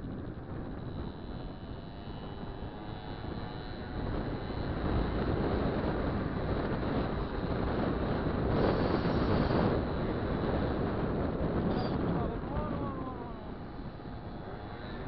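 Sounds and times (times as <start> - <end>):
faint high engine whine: 0.0 - 15.0
wind buffeting microphone: 0.0 - 15.0.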